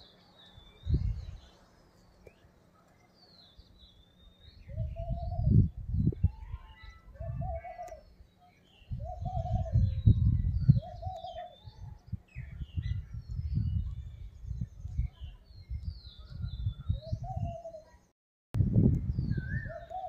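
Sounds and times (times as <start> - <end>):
small birds chirping and whistling: 0.0 - 18.1, 19.0 - 20.0.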